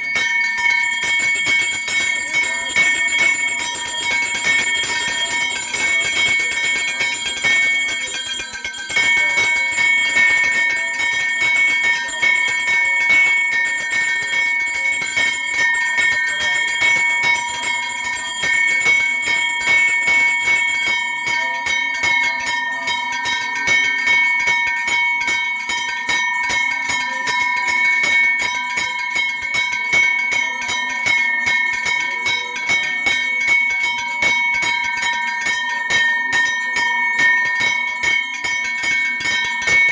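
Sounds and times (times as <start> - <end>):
hand bell ringing rapidly: 0.0 - 39.9.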